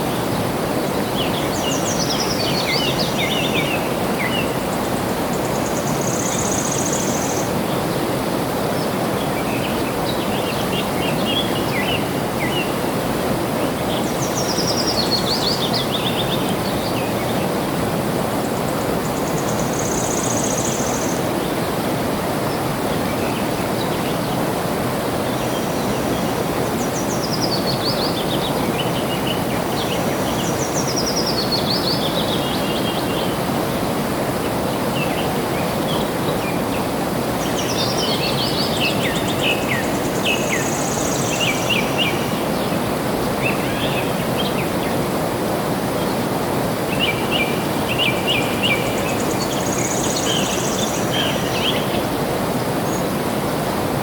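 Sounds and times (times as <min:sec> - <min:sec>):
small birds singing: 0:00.1 - 0:45.2, 0:46.0 - 0:53.6.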